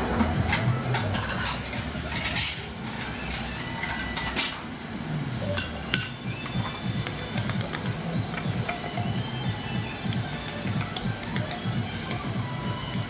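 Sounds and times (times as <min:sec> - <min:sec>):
utensils and dishes clinking: 0:00.0 - 0:04.8, 0:05.4 - 0:13.0.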